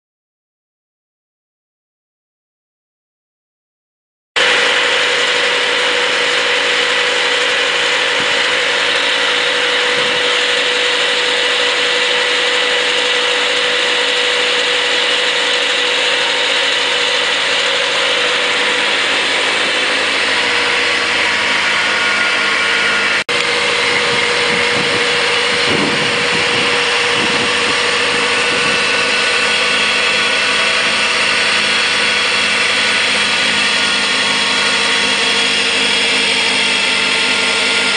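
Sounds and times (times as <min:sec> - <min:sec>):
tractor snowblower drone: 0:04.4 - 0:37.9.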